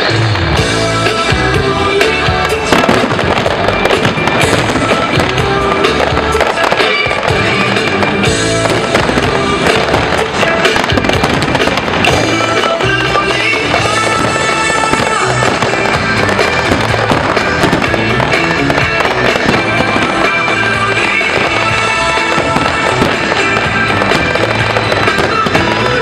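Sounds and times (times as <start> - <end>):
fireworks bursting with crackling: 0.0 - 26.0
loud music: 0.0 - 26.0.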